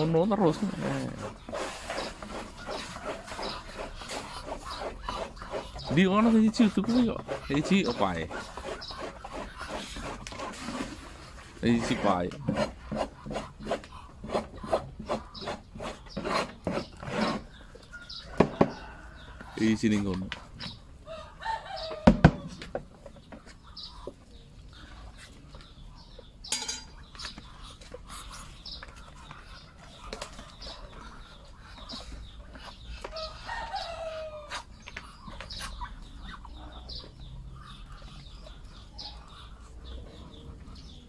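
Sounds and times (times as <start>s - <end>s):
ducks calling: 0.0s - 41.0s.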